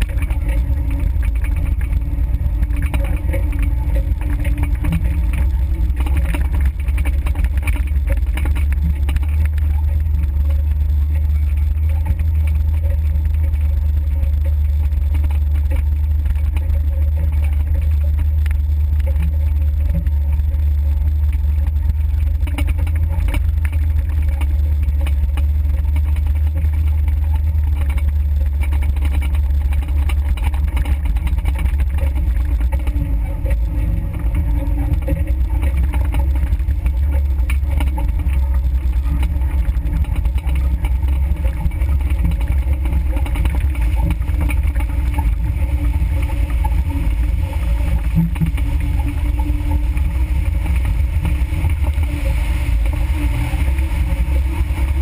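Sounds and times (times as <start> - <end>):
car engine low rumble: 0.0 - 55.0.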